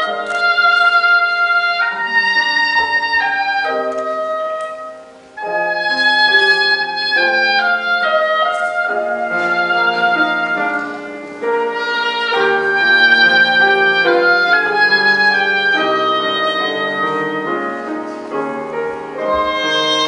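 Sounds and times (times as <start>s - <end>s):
oboe melody: 0.0s - 20.0s
piano accompaniment: 0.0s - 20.0s.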